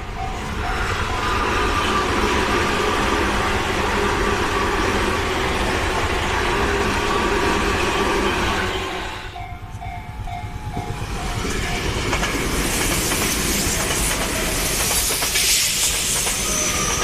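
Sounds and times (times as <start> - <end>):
electric train passing: 0.0 - 17.0
train wheels rushing on rails: 0.0 - 17.0.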